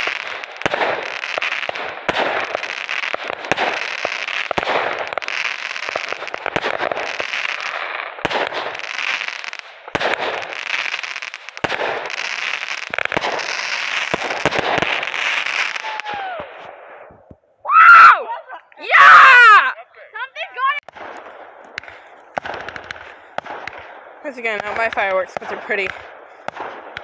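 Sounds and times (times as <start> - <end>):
fireworks crackling and banging: 0.0 - 17.5, 20.2 - 27.0.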